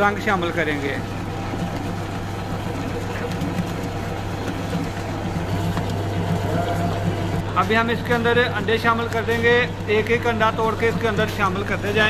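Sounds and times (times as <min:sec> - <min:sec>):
planetary mixer churning: 0:00.0 - 0:12.0.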